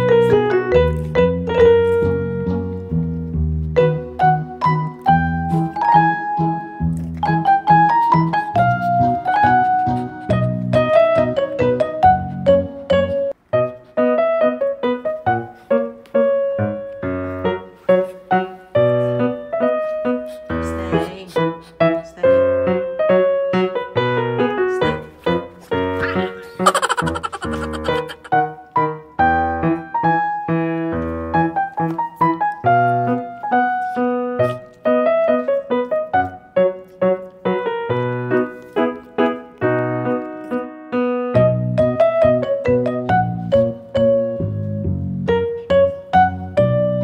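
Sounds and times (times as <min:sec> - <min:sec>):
background piano music: 0:00.0 - 0:47.0.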